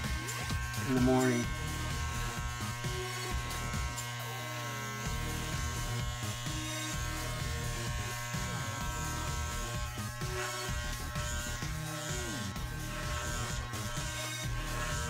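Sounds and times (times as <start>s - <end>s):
electric hair clippers buzzing: 0.0s - 15.0s.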